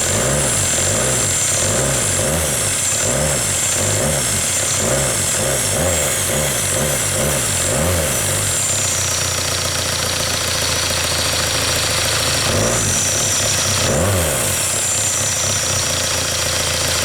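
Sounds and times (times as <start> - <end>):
engine idling with rev blips: 0.0 - 17.0.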